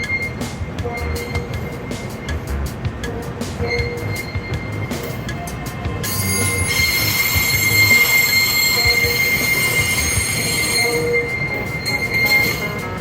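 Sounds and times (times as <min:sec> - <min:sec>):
train wheels squealing on rails: 0:00.0 - 0:02.5, 0:03.1 - 0:13.0.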